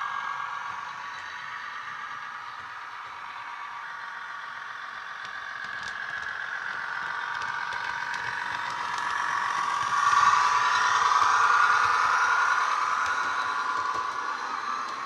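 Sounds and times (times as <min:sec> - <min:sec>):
model train diesel engine sound: 0:00.0 - 0:15.0.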